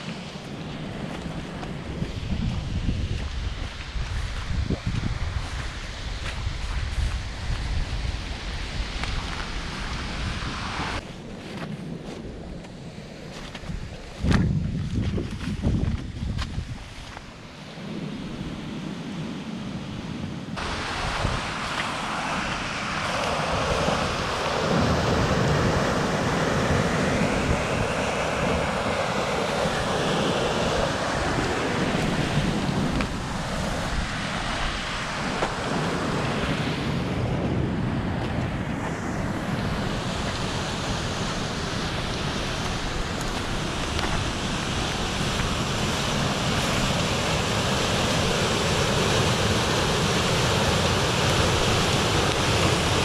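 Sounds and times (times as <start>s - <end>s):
rushing floodwater: 0.0s - 11.1s, 20.6s - 53.0s
wind on microphone: 0.0s - 53.0s.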